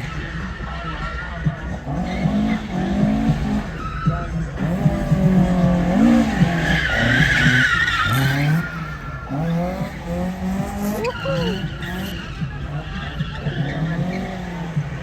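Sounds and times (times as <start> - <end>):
car engine revving: 0.0 - 15.0
tyres squealing: 0.1 - 15.0.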